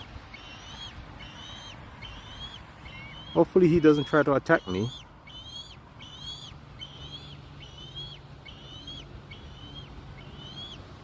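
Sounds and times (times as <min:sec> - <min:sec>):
eagle piping calls: 0:00.0 - 0:11.0.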